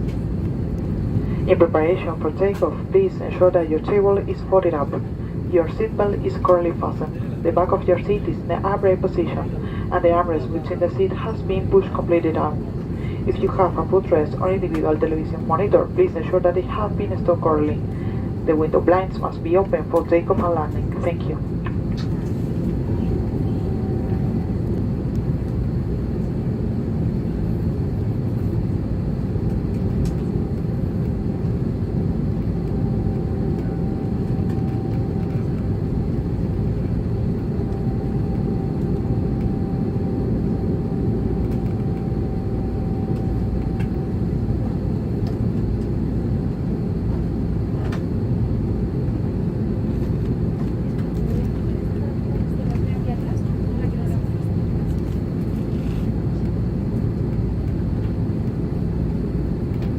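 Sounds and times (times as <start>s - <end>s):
aircraft engine low rumble: 0.0s - 59.9s
faint steady engine whine: 0.0s - 59.9s.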